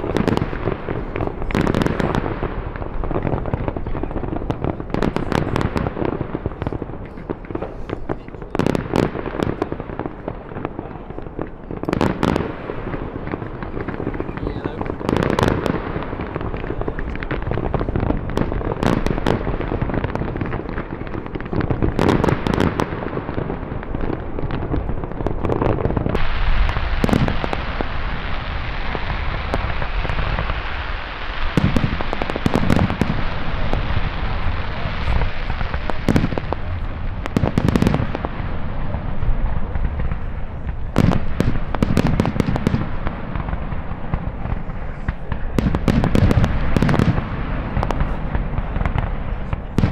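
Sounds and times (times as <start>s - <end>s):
crackling hiss: 0.0s - 49.9s
fireworks bangs and booms: 0.0s - 49.9s.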